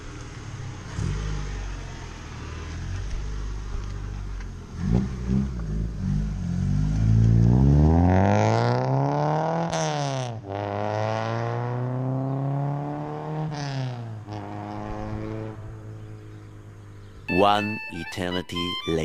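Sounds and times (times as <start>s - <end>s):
car engine accelerating: 0.0s - 17.2s.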